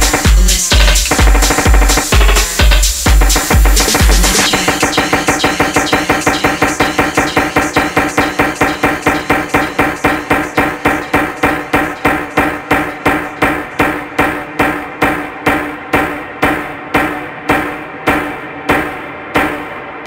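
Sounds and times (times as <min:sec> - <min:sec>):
house music: 0:00.0 - 0:20.0.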